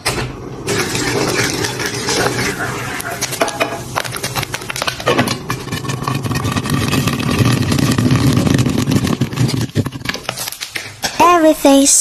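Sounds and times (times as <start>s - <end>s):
popcorn popping in pan: 0.0s - 11.2s.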